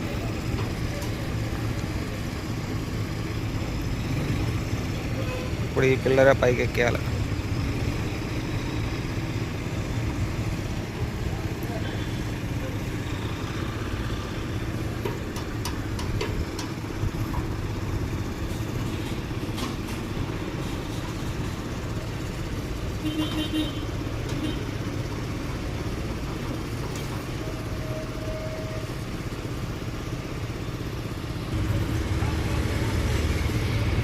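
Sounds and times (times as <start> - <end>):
crane engine running: 0.0 - 34.0.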